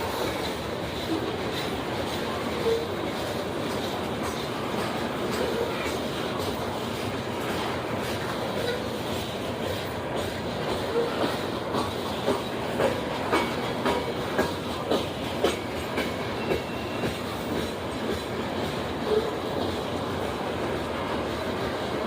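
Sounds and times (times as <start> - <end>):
train rumbling past: 0.0 - 22.0
wheels clicking over rail joints: 0.0 - 22.0.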